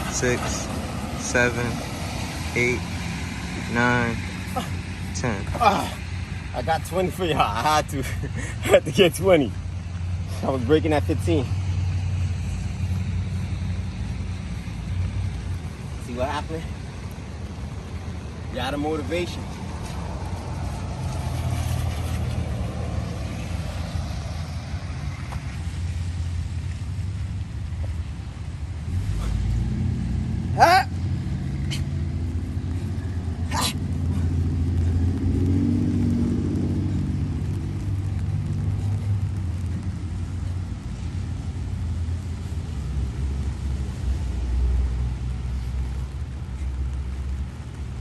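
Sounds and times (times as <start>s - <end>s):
low outdoor rumble: 0.0s - 48.0s.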